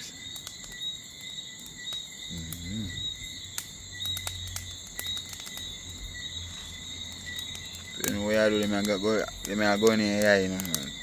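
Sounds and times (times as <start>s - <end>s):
burning charcoal crackling: 0.0s - 11.0s
crickets chirping: 0.0s - 11.0s.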